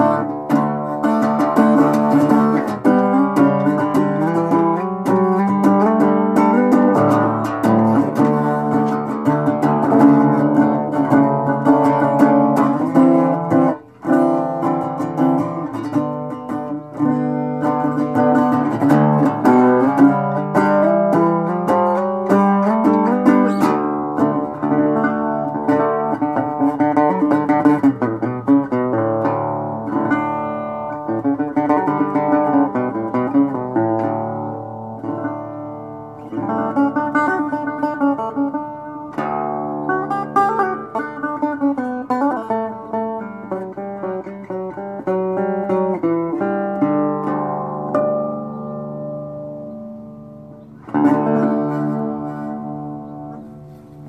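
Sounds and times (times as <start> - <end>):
resonator guitar playing: 0.0 - 54.0.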